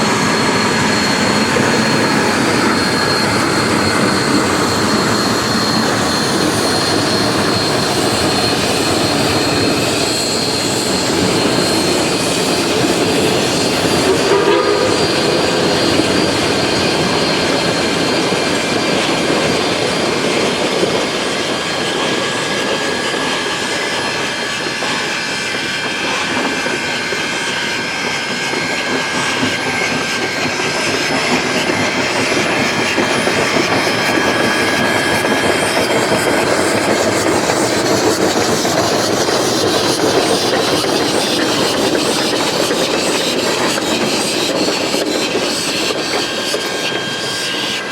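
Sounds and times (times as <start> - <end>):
locomotive running gear: 0.0 - 47.9
steam locomotive exhaust: 0.0 - 47.9.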